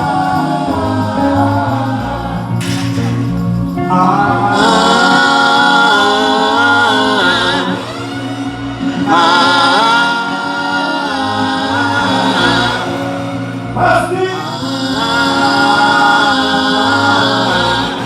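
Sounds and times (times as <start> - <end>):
held bass notes: 0.0 - 18.0
person singing melodic line: 0.0 - 18.0.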